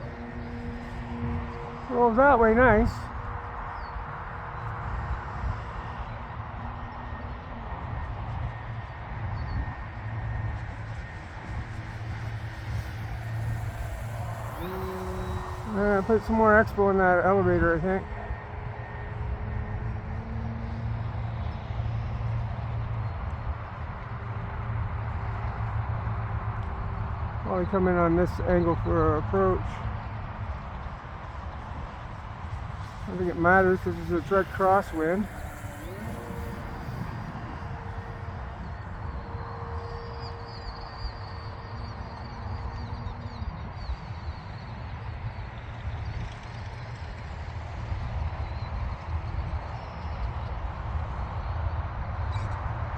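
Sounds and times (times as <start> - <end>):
model plane motor drone: 0.0 - 52.9
wind buffeting microphone: 0.0 - 52.9.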